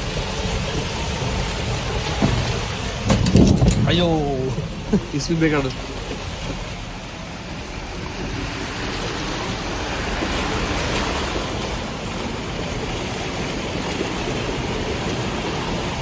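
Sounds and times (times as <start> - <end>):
moving vehicle rushing noise: 0.8 - 14.4.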